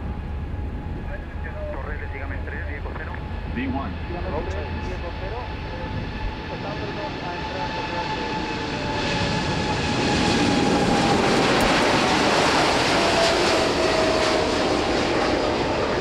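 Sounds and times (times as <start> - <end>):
jet engine whine falling in pitch: 0.0 - 16.0
jet engines roaring at takeoff: 0.0 - 16.0.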